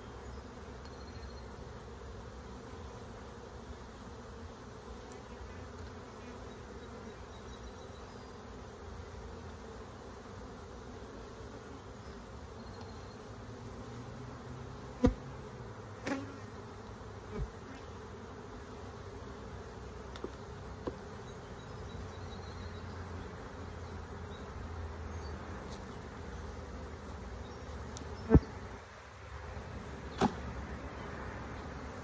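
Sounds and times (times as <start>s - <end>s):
honeybees buzzing: 0.0s - 32.0s.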